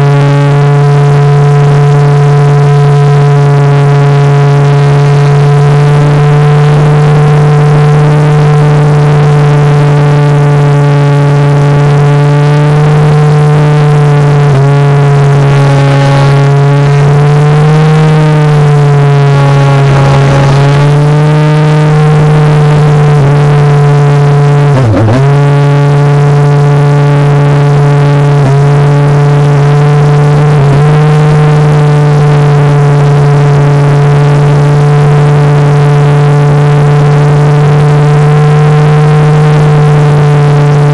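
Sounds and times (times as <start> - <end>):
model plane motor humming: 0.0 - 40.9.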